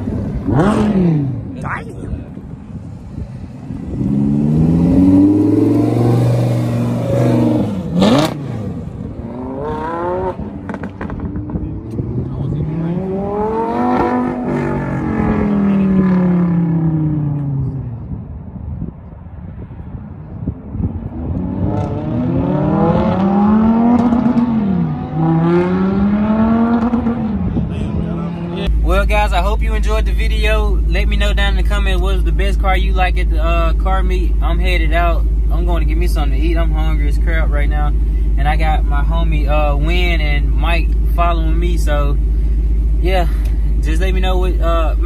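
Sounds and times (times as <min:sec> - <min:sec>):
car engine revving: 0:00.0 - 0:01.8, 0:02.8 - 0:18.0, 0:20.8 - 0:45.0.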